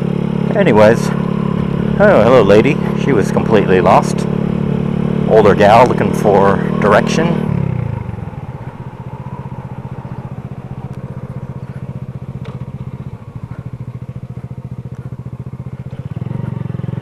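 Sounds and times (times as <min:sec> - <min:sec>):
motorbike engine at low revs: 0:00.0 - 0:17.0.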